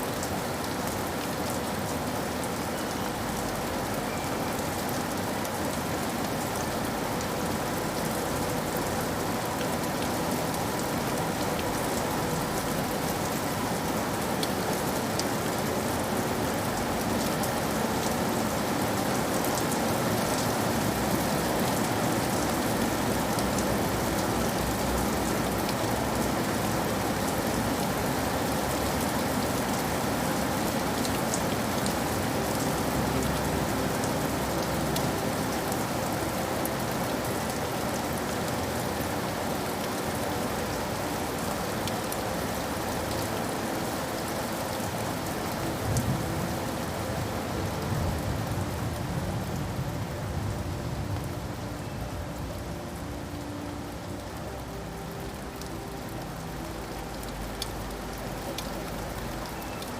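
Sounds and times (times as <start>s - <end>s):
rain falling: 0.0s - 59.9s
raindrops pattering on a surface: 0.0s - 59.9s.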